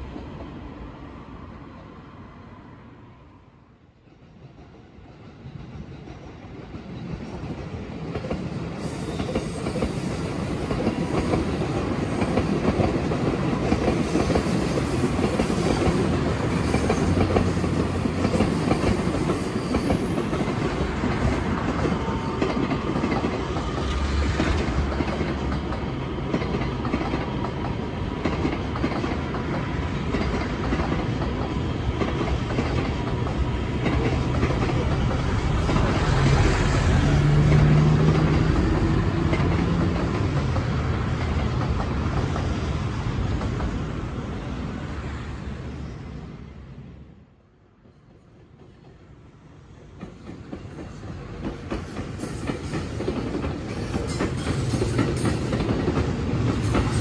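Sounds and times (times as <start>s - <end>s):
train wheels clacking on rails: 4.3s - 43.8s, 49.8s - 57.0s.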